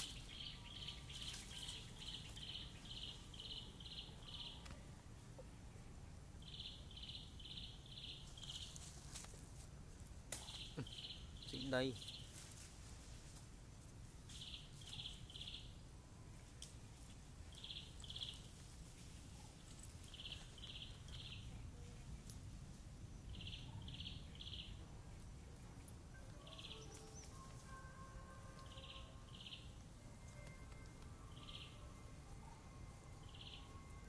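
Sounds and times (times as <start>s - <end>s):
low outdoor rumble: 0.0s - 34.0s.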